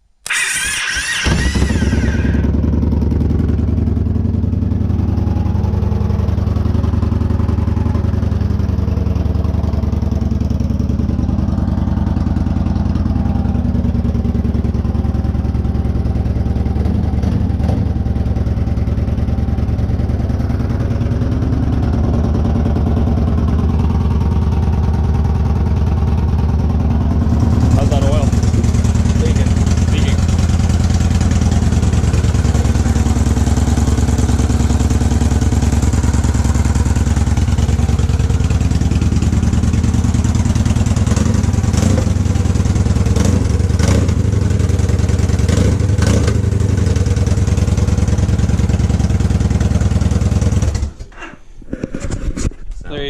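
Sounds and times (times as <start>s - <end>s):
motorcycle engine idling: 0.3s - 51.3s.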